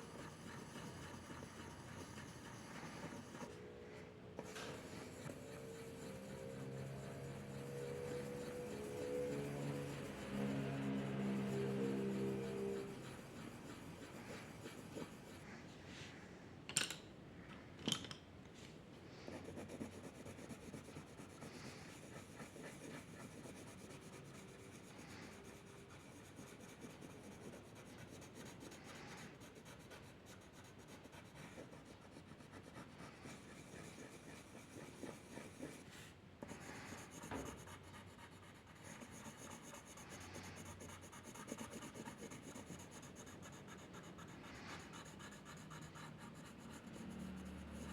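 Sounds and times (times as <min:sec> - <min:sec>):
drawing tool scratching paper: 0:00.0 - 0:03.6, 0:04.4 - 0:15.5, 0:19.3 - 0:47.9.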